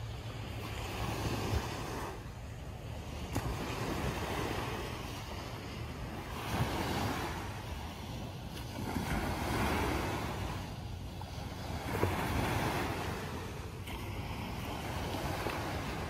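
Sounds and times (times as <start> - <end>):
waves breaking on beach: 0.0 - 16.0
wind rumbling on microphone: 0.0 - 16.0.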